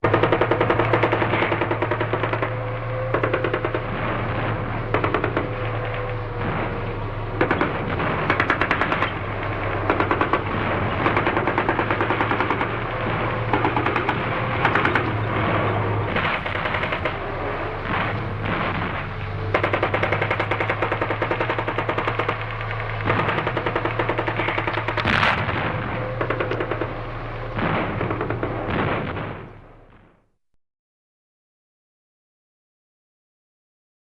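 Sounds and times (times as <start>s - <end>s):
rifle and automatic gunfire: 0.0s - 30.0s
low hum: 0.1s - 30.2s.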